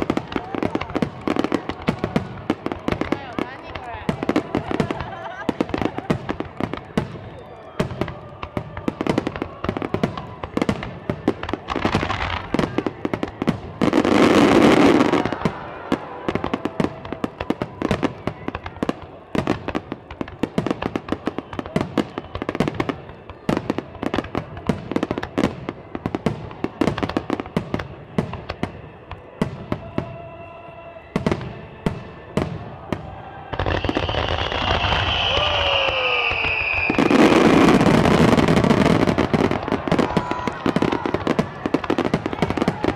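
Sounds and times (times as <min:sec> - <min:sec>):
fireworks crackling and banging: 0:00.0 - 0:42.9.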